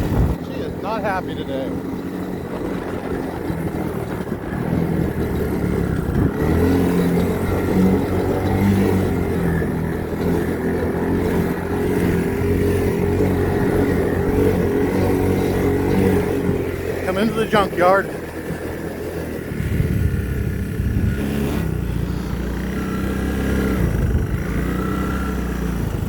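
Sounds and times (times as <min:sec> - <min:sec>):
three-wheeler engine running: 0:00.0 - 0:26.0.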